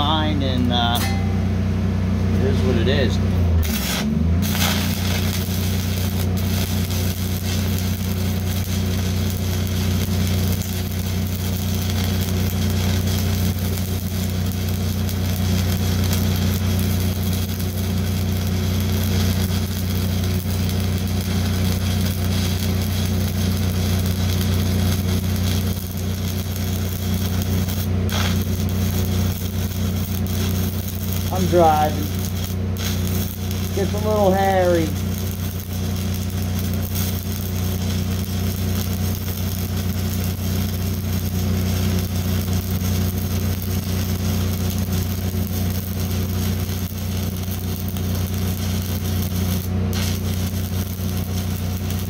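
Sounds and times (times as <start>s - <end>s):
welding arc crackling: 0.0s - 1.3s, 2.4s - 52.0s
steady low hum: 0.0s - 52.0s.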